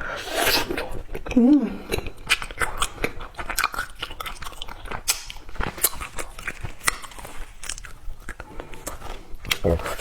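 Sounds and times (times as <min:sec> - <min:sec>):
candies crunching and chewing: 0:00.3 - 0:10.0.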